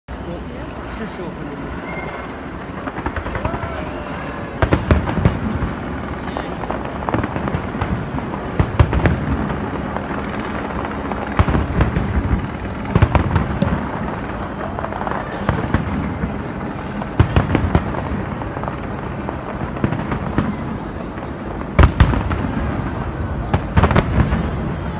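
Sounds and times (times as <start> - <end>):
fireworks bangs and crackles: 0.1 - 24.9.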